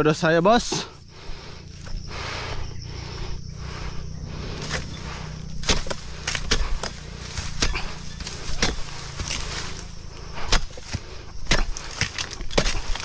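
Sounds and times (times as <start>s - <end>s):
steady low rumble: 0.8s - 12.0s.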